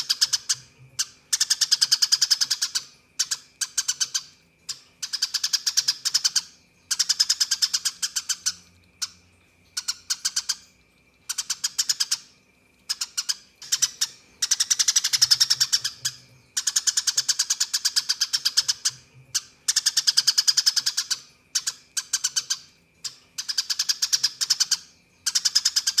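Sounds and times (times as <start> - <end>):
sparrow chattering chirps: 0.0 - 26.0.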